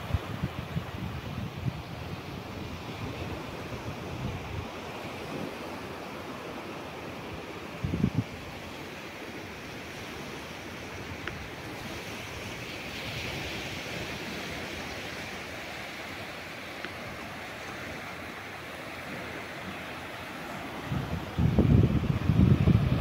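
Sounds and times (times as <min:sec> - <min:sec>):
waves washing on beach: 0:00.0 - 0:23.0.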